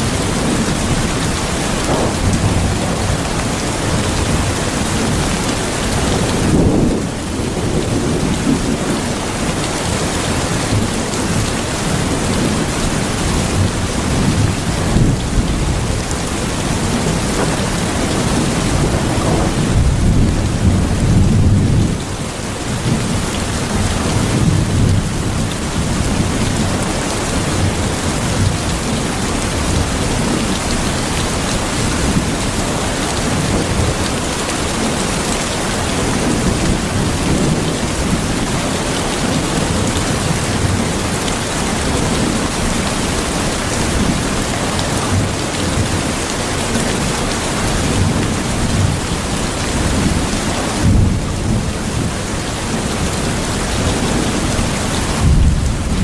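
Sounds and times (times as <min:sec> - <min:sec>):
heavy rain: 0:00.0 - 0:56.0
thunder rumbling: 0:00.0 - 0:56.0.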